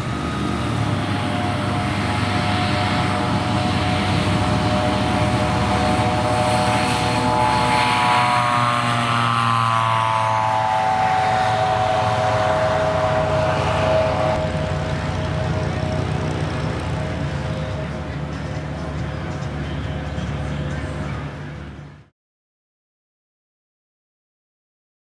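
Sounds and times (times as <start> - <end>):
propeller aircraft engine: 0.0 - 22.1.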